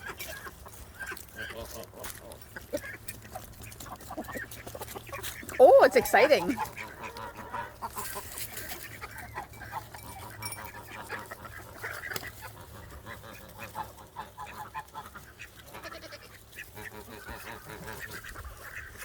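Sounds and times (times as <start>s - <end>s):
poultry calling: 0.0s - 19.0s.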